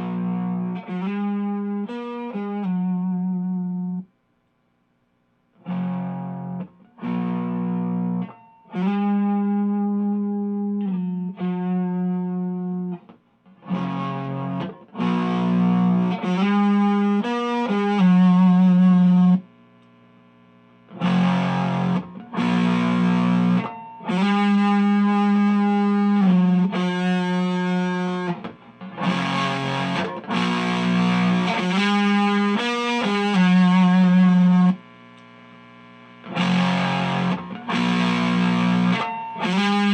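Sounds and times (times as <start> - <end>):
distorted electric guitar: 0.0 - 4.1, 5.6 - 39.9.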